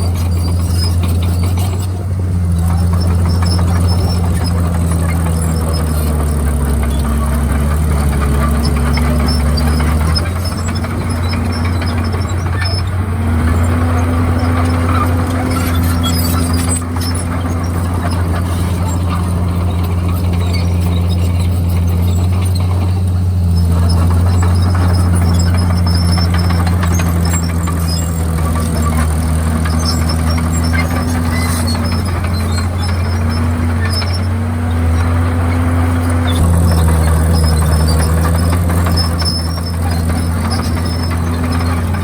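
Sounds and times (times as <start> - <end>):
bulldozer diesel engine under load: 0.0 - 42.0.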